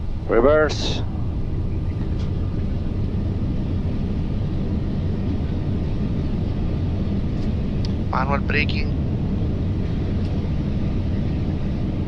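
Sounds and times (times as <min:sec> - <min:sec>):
jet engines in reverse thrust: 0:00.0 - 0:12.0.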